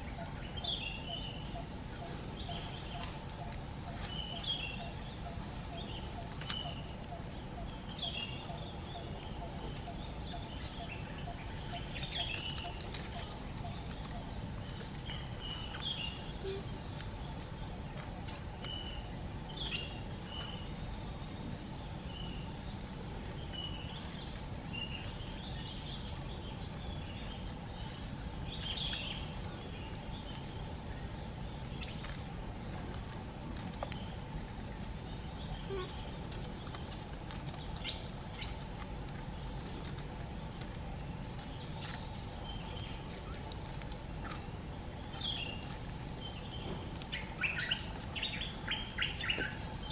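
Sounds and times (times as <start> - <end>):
birds chirping: 0.0 - 49.9
dry leaves crackling underfoot: 0.0 - 49.9
low background noise: 0.0 - 49.9.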